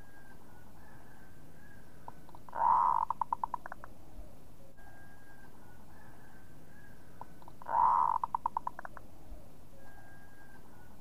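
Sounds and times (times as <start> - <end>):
dove cooing: 0.0 - 6.9, 7.6 - 11.0.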